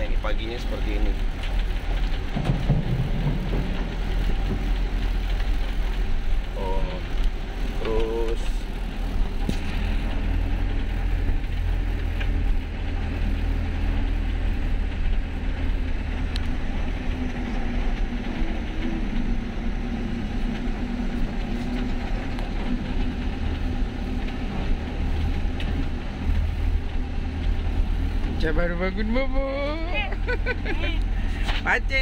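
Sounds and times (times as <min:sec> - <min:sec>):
faint clicks and rattles: 0:00.0 - 0:29.6
bus engine rumbling: 0:00.0 - 0:32.0.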